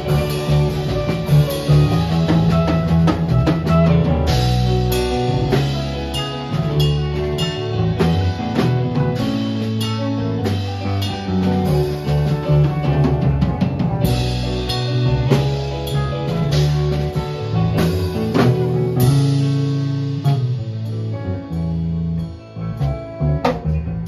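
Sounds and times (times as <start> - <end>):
bass guitar: 0.0 - 24.0
drum kit: 0.0 - 24.0
electric guitars: 0.0 - 24.0
keyboard: 0.0 - 24.0.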